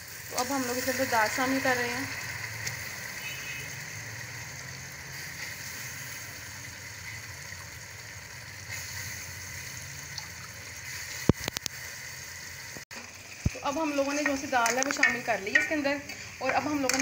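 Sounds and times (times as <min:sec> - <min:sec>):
food sizzling and bubbling in pot: 0:00.0 - 0:17.0.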